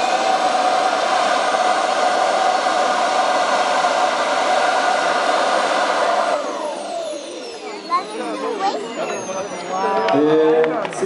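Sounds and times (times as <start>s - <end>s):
model jet engine whining: 0.0s - 10.0s.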